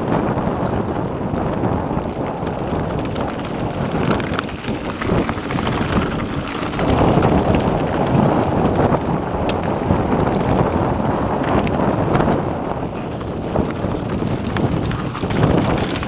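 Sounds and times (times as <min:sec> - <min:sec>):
wind buffeting microphone: 0:00.0 - 0:16.0
bike knocks and clicks: 0:00.1 - 0:16.0
tyres rolling on rocky gravel: 0:00.1 - 0:16.0.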